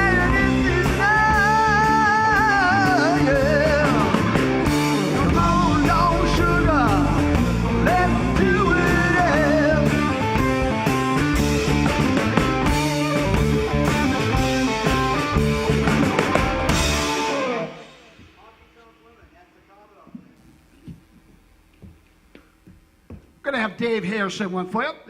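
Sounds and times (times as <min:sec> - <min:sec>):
drums keeping a steady beat: 0:00.0 - 0:23.7.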